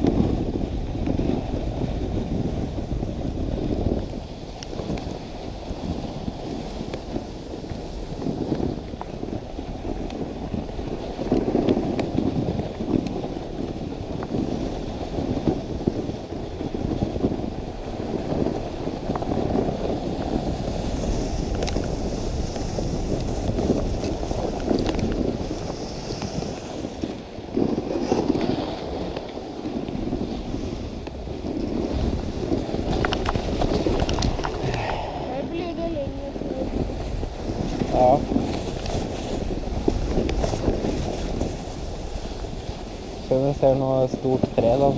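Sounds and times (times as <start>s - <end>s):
sled runners scraping snow: 0.0s - 44.9s
wind buffeting microphone: 0.0s - 44.9s.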